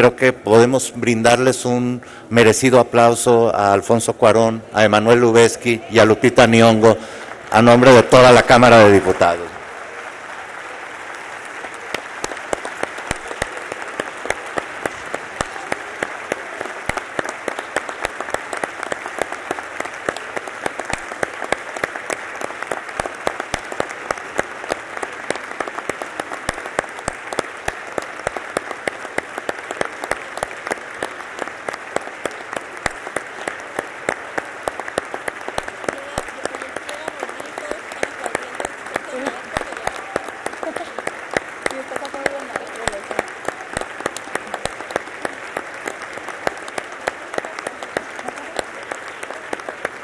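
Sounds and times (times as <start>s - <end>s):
crowd applause: 0.0s - 3.4s, 4.8s - 50.0s.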